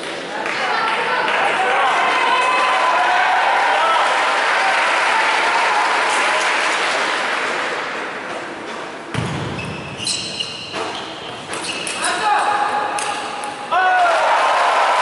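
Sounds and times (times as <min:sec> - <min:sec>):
crowd noise in hall: 0:00.0 - 0:15.0.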